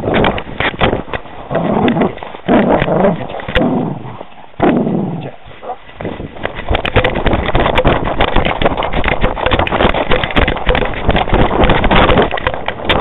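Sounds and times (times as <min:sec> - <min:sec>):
rapid knocking and rubbing: 0:00.0 - 0:03.6, 0:06.0 - 0:13.0
wind buffeting microphone: 0:00.0 - 0:13.0.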